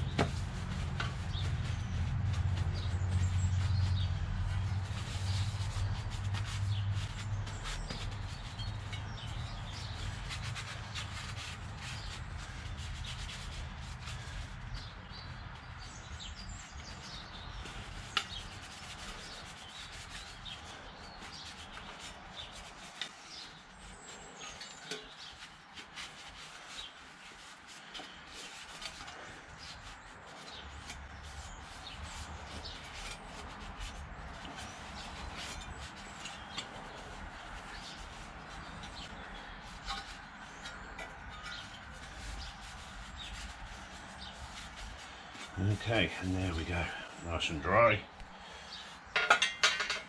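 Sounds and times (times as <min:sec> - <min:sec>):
paper towel rubbing metal: 0:00.0 - 0:15.6, 0:16.7 - 0:47.0.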